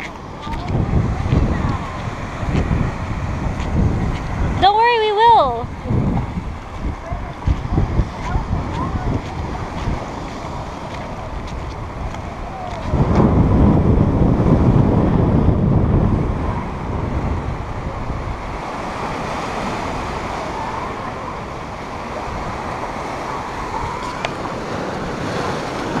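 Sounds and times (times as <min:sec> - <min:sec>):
ocean surf washing on rocks: 0:00.0 - 0:26.0
wind rumbling on microphone: 0:00.0 - 0:26.0.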